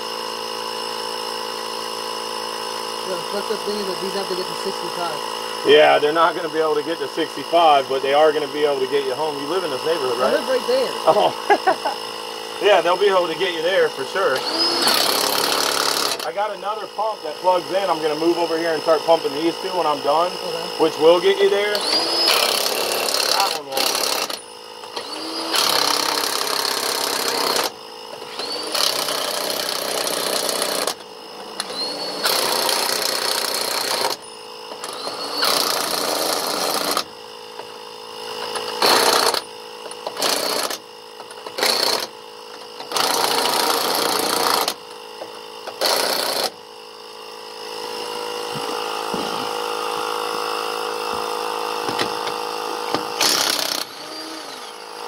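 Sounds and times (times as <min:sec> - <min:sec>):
impact wrench bursts: 0:00.0 - 0:55.0
steady motor hum: 0:00.0 - 0:55.0.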